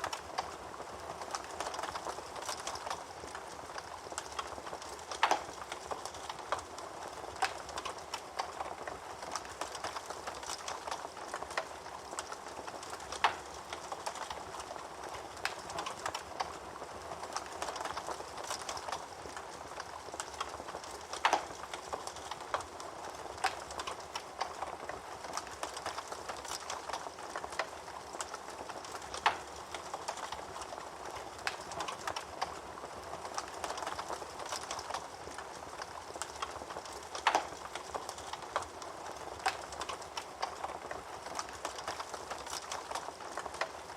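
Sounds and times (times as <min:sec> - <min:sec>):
fire popping: 0:00.0 - 0:43.9
wood fire crackling: 0:00.0 - 0:43.9.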